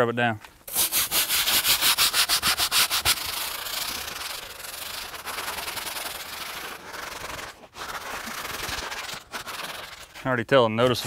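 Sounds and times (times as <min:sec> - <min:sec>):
brush scrubbing wet boat deck: 0:00.6 - 0:11.0.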